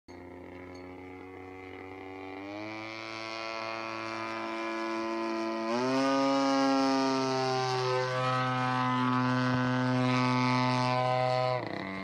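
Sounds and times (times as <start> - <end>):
model airplane motor whine: 0.1 - 12.0.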